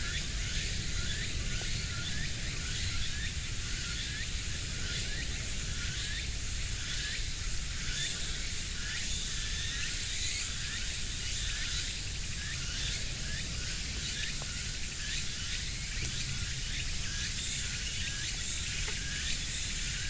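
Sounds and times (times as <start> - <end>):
insect chirping: 0.0 - 20.0
insect chorus hiss: 0.0 - 20.0.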